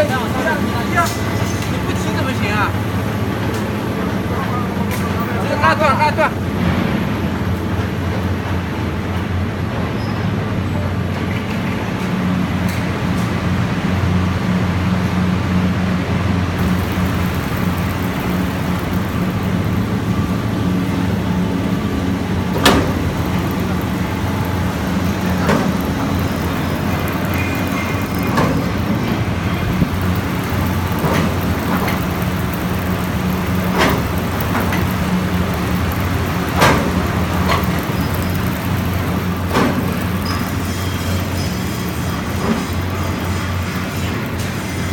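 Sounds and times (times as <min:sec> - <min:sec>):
machine mechanical hum: 0:00.0 - 0:44.9.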